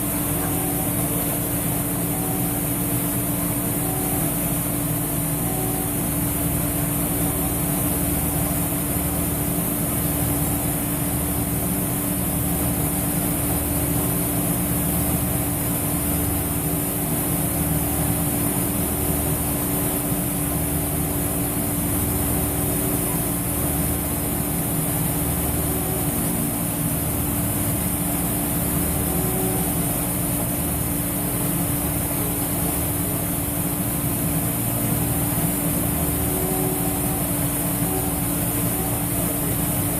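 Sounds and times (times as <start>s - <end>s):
pulsing machine hum: 0.0s - 39.9s.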